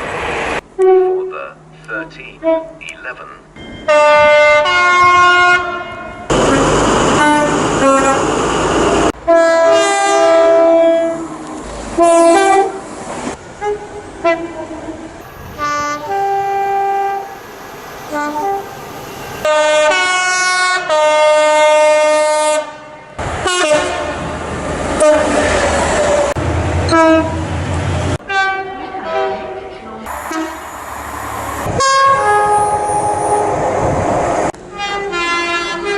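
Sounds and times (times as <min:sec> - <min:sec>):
two-tone train horns: 0:00.6 - 0:01.5, 0:02.4 - 0:02.9, 0:03.8 - 0:08.5, 0:09.1 - 0:12.8, 0:13.5 - 0:25.6, 0:26.2 - 0:27.6, 0:28.2 - 0:33.6, 0:34.6 - 0:35.9.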